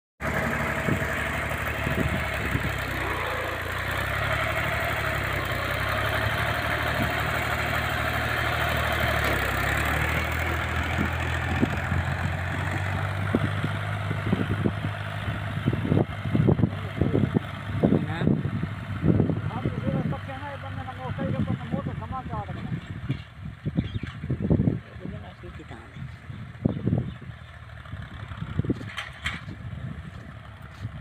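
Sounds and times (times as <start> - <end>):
tractor diesel engine running: 0.2 - 31.0.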